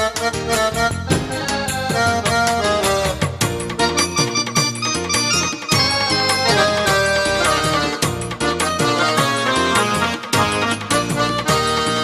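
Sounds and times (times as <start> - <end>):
folk song instrumental melody: 0.0 - 12.0
steady drum beat: 0.3 - 11.9.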